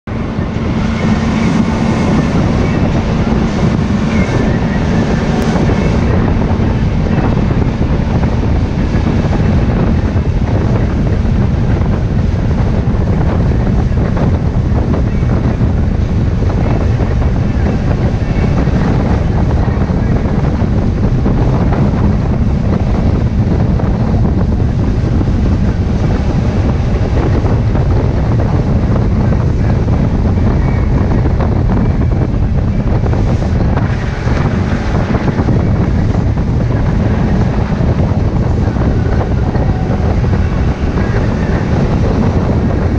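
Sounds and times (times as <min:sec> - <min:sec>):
boat engine droning: 0:00.0 - 0:42.9
water rushing along hull: 0:00.0 - 0:42.9
wind buffeting microphone: 0:00.0 - 0:42.9.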